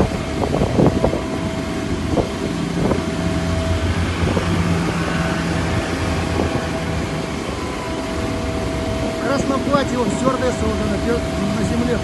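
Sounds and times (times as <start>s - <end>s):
low mechanical hum: 0.0s - 12.0s
wind noise on microphone: 0.0s - 12.0s.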